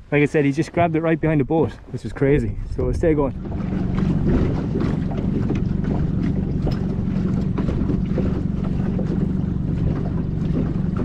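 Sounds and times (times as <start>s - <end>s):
outboard motor droning: 0.0s - 11.0s
water washing along hull: 0.0s - 11.0s
wind buffeting microphone: 0.0s - 11.0s.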